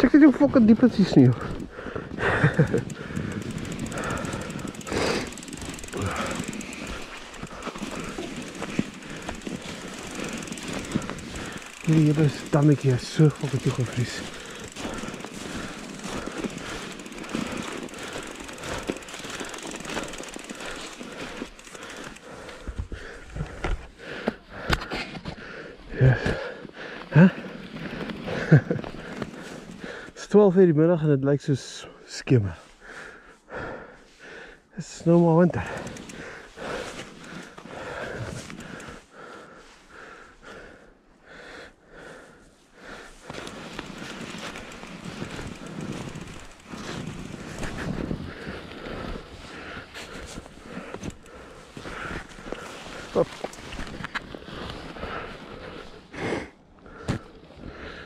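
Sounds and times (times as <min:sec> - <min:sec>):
bike rustling through snow: 0:00.0 - 0:30.4, 0:32.4 - 0:58.0
person breathing hard: 0:01.4 - 0:12.5, 0:13.3 - 0:30.2, 0:32.6 - 0:34.7, 0:35.6 - 0:53.8, 0:54.4 - 0:58.0.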